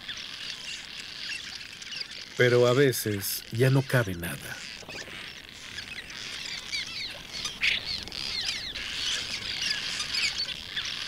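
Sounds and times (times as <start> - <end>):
swallows chirping: 0.0 - 11.0.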